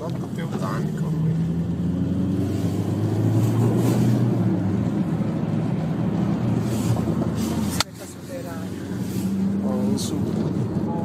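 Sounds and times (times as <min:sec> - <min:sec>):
car engine drone: 0:00.0 - 0:11.0
road and wind noise: 0:00.0 - 0:11.0.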